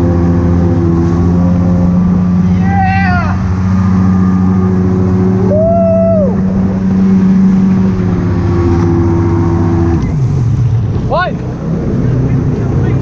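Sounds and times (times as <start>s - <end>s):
jet ski engine humming: 0.0s - 13.0s
wind: 0.0s - 13.0s.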